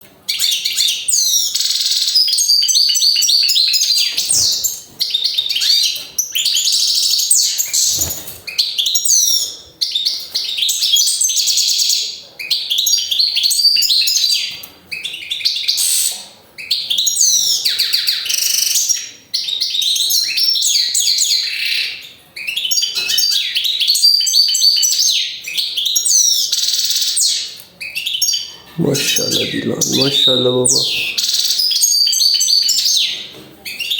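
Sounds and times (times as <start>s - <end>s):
bird twittering and trilling: 0.3s - 33.9s.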